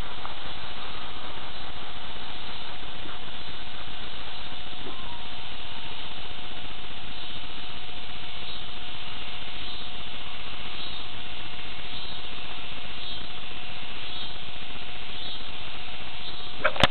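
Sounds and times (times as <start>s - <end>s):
faint high chirps: 0.0s - 6.1s, 8.3s - 16.9s
camera recording hiss: 0.0s - 16.9s
faint constant tone: 0.0s - 16.9s.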